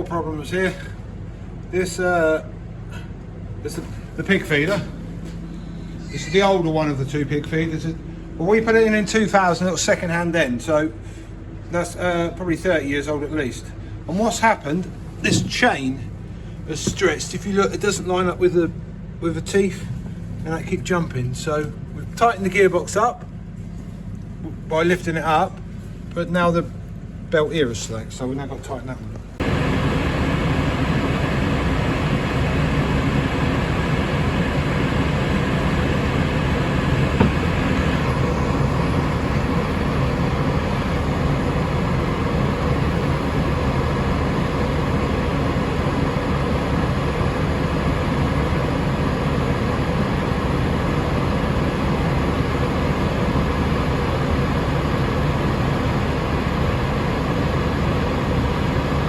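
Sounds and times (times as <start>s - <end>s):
tractor engine drone: 0.0s - 59.0s.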